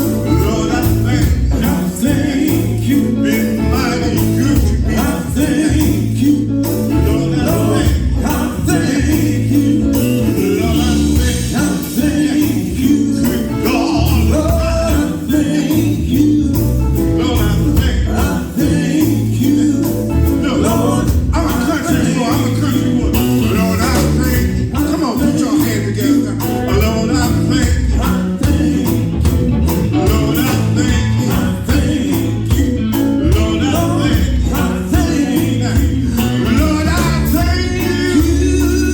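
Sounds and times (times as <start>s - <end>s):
gospel band playing: 0.0s - 38.9s
person singing: 0.0s - 38.9s.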